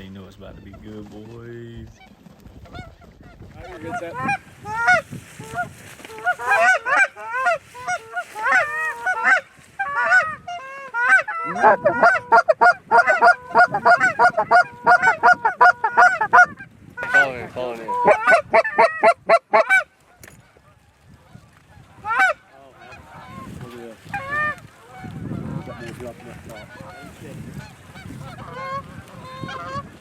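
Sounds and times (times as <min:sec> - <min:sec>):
geese honking: 0:01.9 - 0:30.0.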